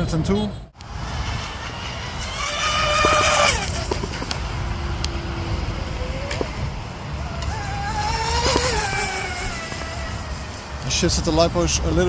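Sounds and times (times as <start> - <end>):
wind rumble on microphone: 0.0 - 12.0
electric motors whining: 0.8 - 11.0.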